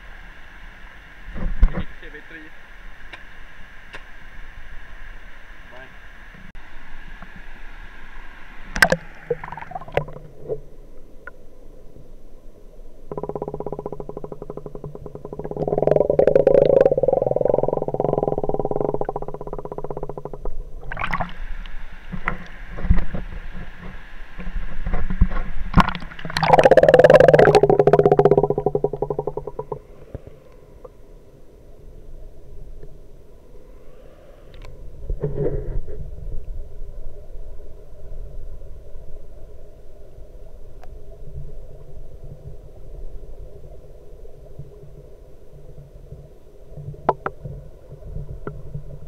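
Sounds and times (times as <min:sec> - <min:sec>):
muffled water churning: 0:00.0 - 0:49.0.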